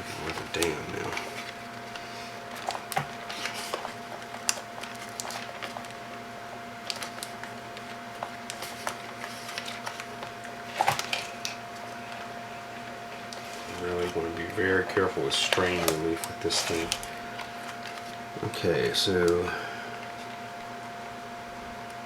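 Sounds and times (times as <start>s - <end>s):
clicks and rustles of tape: 0.0s - 12.3s, 13.1s - 19.4s
faint hum: 0.0s - 22.0s.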